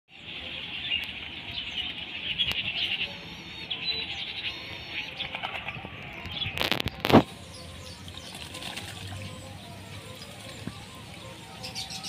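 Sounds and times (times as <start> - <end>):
birds chirping and twittering: 0.1 - 12.0.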